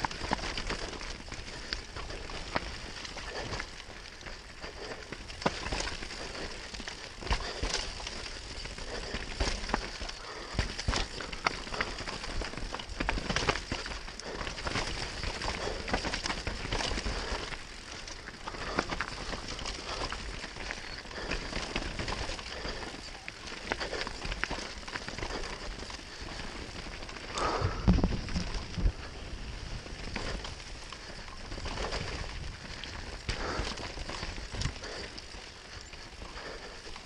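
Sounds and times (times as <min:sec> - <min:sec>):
bike knocking and rattling: 0:00.0 - 0:37.0
bike tyres hissing over soil: 0:00.0 - 0:37.0.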